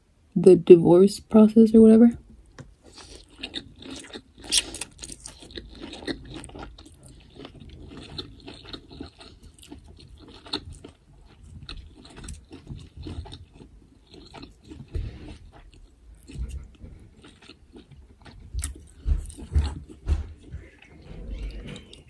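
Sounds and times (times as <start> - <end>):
person chewing crunchy food: 2.4 - 22.0.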